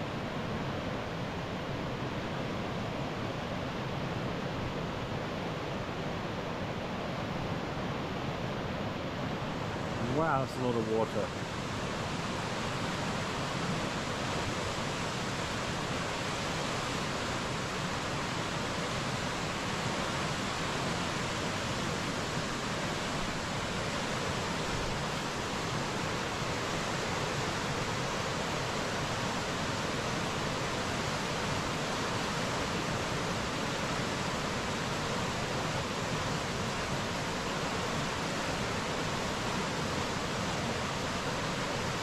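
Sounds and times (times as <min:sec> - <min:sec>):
waterfall rushing over rock: 0:00.0 - 0:42.0.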